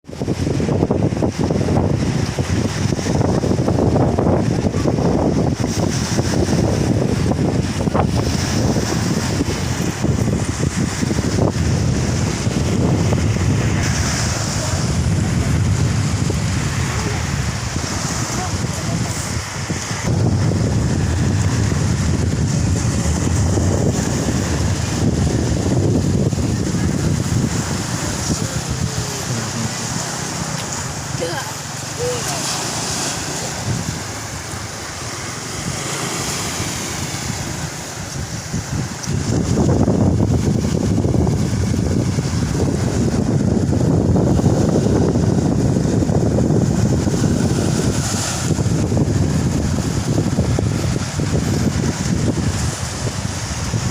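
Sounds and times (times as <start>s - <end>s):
breaking water rush: 0.0s - 53.9s
surf washing: 0.0s - 53.9s
wind buffeting microphone: 0.0s - 53.9s.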